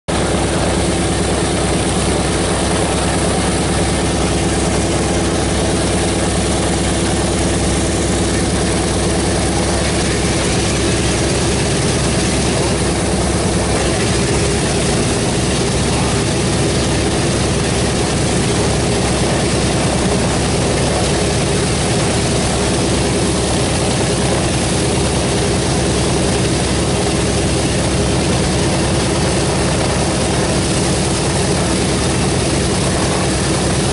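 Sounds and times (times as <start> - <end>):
radial aircraft engines droning: 0.1 - 33.9.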